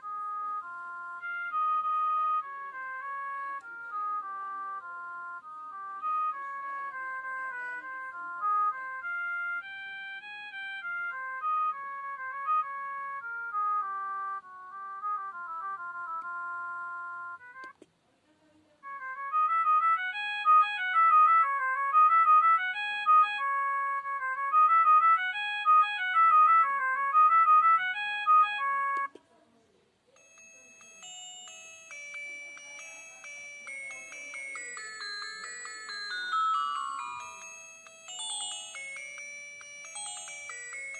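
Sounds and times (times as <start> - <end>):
polyphonic phone ringtone: 0.0 - 17.7, 18.8 - 29.1, 30.2 - 40.9.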